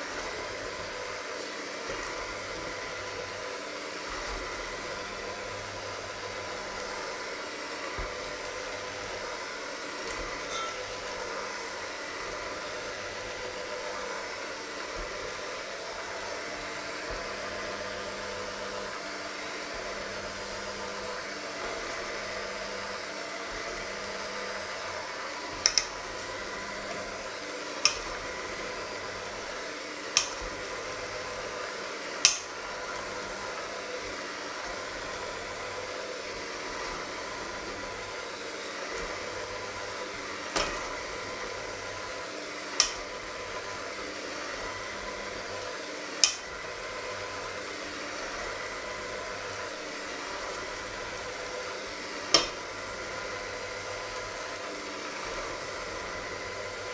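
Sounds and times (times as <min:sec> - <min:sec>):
electric hand mixer whisking: 0:00.0 - 0:56.9.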